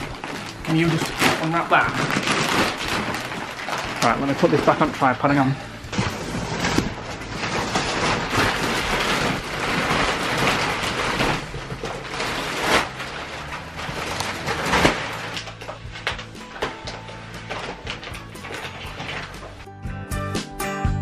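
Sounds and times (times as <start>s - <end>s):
plastic film crinkling: 0.0s - 19.7s.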